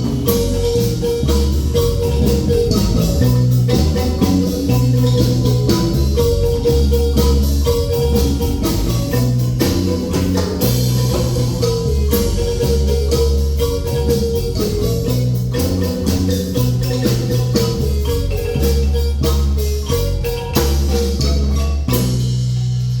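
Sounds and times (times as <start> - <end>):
drums keeping a steady beat: 0.0 - 23.0
low bass line: 0.0 - 23.0
marimba melody: 0.0 - 23.0.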